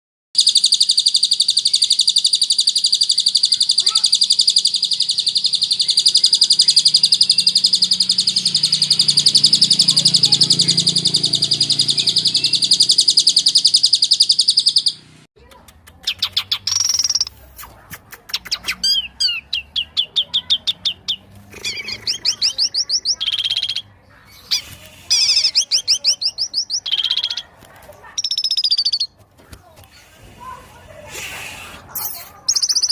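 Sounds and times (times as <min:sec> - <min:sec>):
songbird trilling and chirping: 0:00.4 - 0:15.1, 0:16.0 - 0:29.2, 0:31.9 - 0:32.9.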